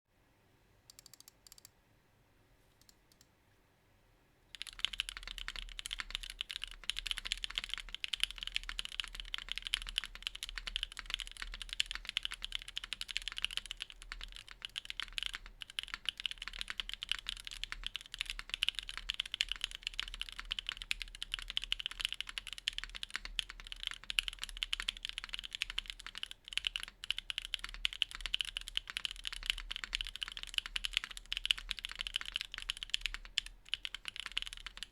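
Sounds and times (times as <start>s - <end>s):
mechanical keyboard typing: 0.9s - 1.7s, 4.5s - 34.9s.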